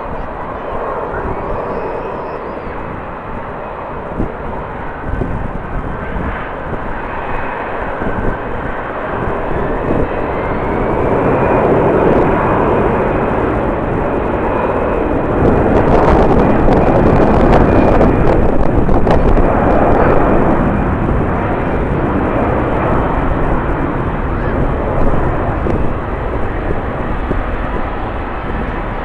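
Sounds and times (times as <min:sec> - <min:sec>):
jet engines roaring: 0:00.0 - 0:29.0
wind buffeting microphone: 0:00.0 - 0:29.0.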